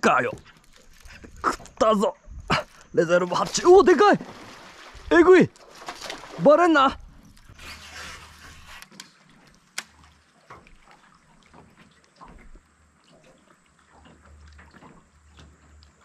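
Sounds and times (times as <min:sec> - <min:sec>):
water trickling and lapping: 0:00.0 - 0:16.0.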